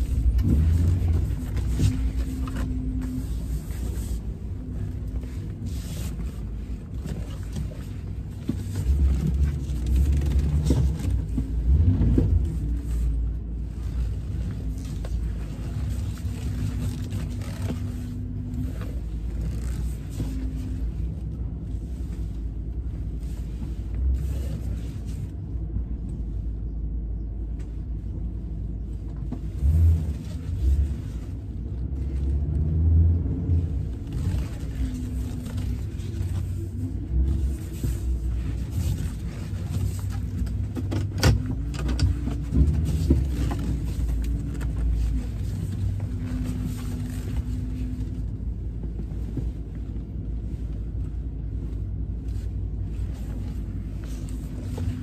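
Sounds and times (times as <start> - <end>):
truck road and engine rumble: 0.0 - 55.0.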